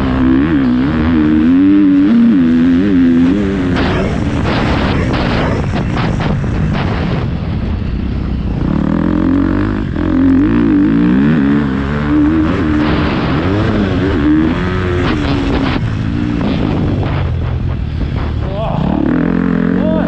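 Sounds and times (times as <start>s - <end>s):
loud rough noise: 0.0s - 20.0s
motocross bike engine revving: 0.0s - 20.0s.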